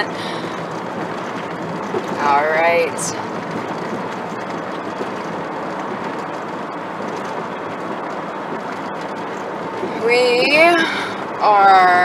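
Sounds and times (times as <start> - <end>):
car road noise: 0.0 - 12.0.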